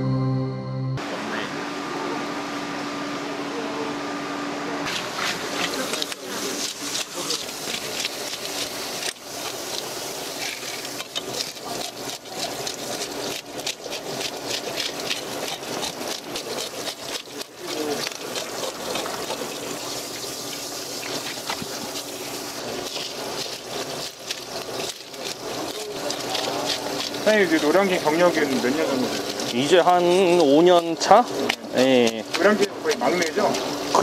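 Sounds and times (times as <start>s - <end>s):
water spraying from nozzle: 4.9s - 34.0s
fish scaler scraping scales: 5.7s - 33.8s.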